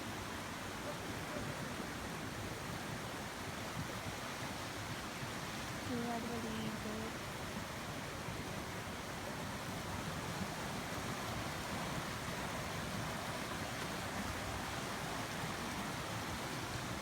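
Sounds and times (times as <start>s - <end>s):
flowing stream water: 0.0s - 17.0s.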